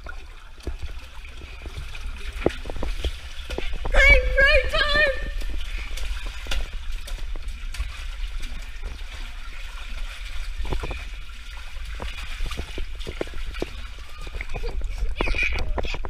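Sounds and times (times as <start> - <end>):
water rushing and splashing: 0.0 - 16.0.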